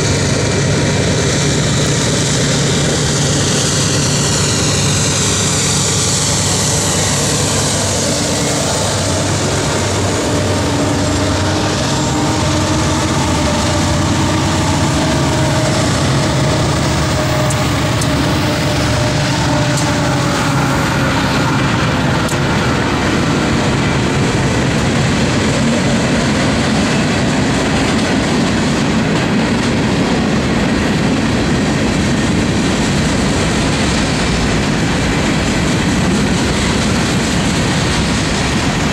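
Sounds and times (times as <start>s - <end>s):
diesel locomotives under power: 0.0s - 38.9s
freight cars rumbling on rails: 0.0s - 38.9s.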